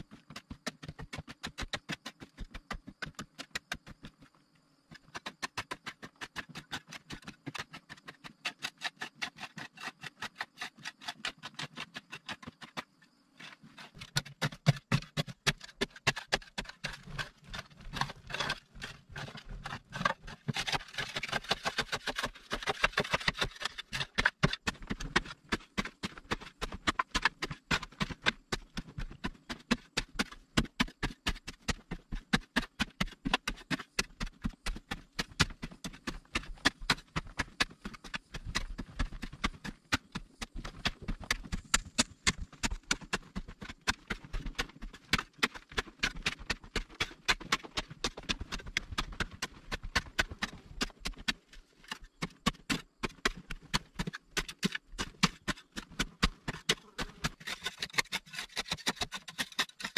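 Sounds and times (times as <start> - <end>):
pick striking earth and stone: 0.0 - 59.9.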